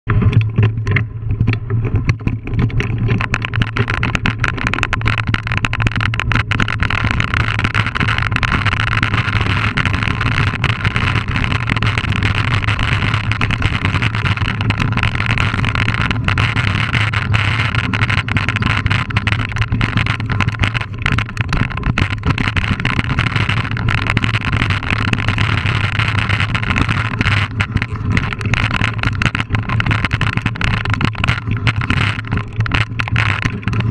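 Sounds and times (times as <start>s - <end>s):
bike rattling with clicks: 0.1s - 33.9s.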